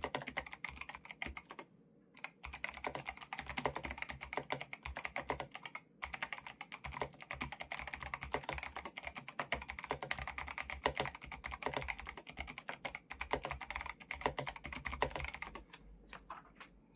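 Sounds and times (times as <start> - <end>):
mechanical keyboard typing: 0.0 - 1.6, 2.2 - 15.7.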